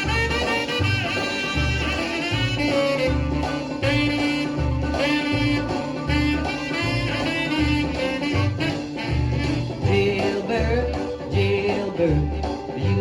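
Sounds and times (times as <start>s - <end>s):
repeating bass beat: 0.0s - 13.0s
rhythm and blues band instrumental: 0.0s - 13.0s.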